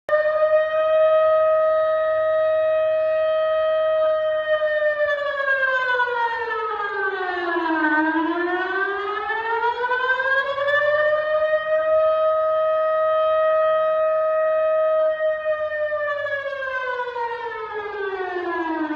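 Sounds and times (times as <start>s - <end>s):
warning siren sliding tone: 0.1s - 18.9s.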